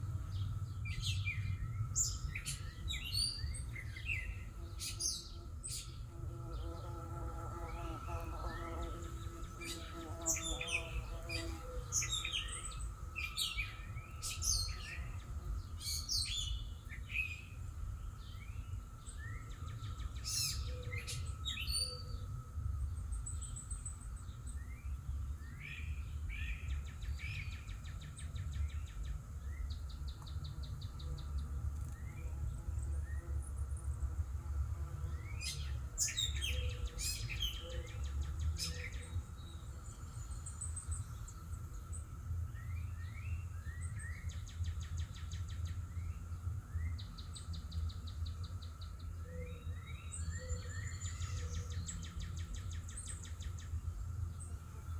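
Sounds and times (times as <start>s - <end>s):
songbirds chirping and singing: 0.0s - 54.9s.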